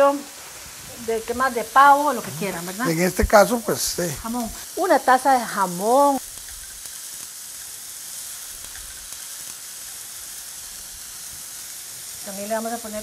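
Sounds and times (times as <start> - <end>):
food sizzling in a skillet: 0.0 - 13.0.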